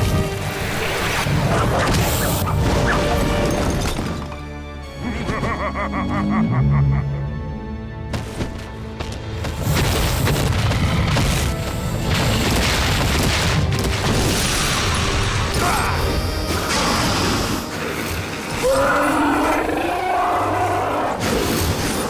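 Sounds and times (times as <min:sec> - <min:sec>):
dramatic background music: 0:00.0 - 0:22.0.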